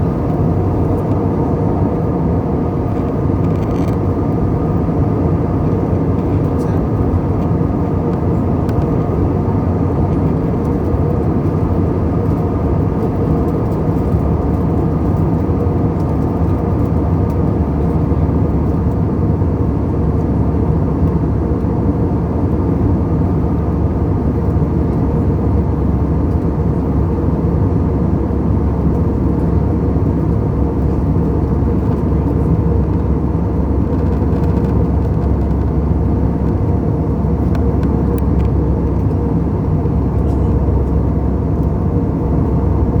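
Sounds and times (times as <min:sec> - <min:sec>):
jet airliner low rumble: 0:00.0 - 0:43.0.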